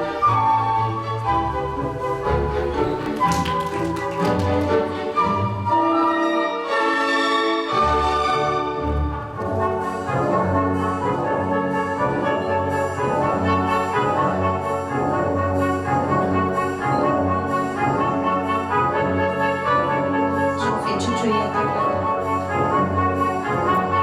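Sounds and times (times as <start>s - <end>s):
orchestral music with brass: 0.0s - 24.0s.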